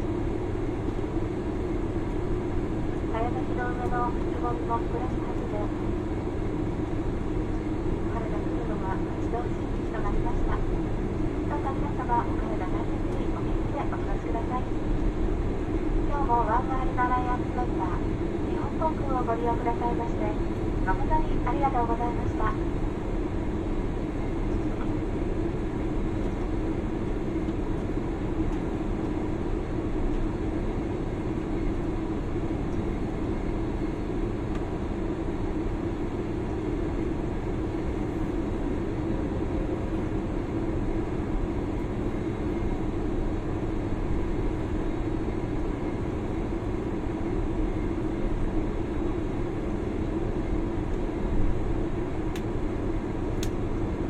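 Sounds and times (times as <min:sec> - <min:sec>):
airliner cabin hum: 0:00.0 - 0:54.0
jet engines idling: 0:00.0 - 0:54.0.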